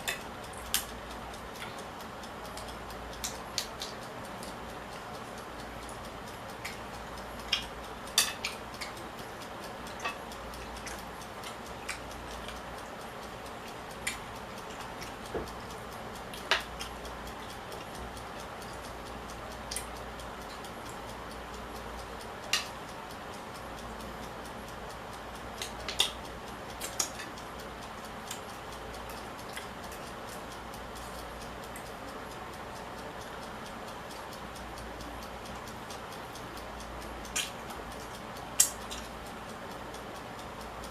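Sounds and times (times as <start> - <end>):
steady low hiss: 0.0 - 40.9.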